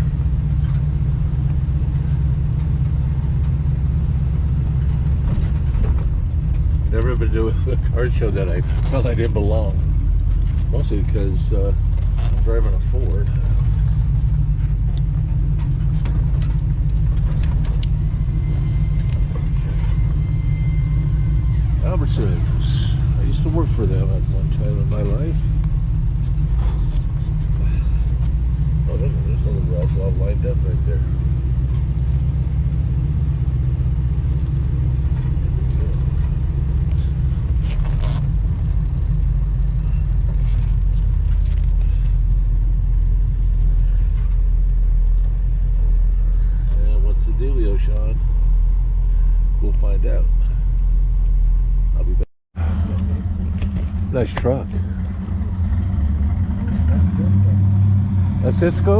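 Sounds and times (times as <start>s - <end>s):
car cabin rumble: 0.0s - 58.9s
road noise: 0.0s - 58.9s.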